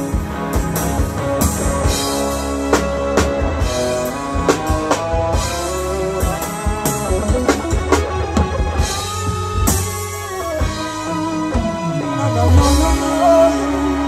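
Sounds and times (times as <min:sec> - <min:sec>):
live reggae band instrumental: 0:00.0 - 0:14.0.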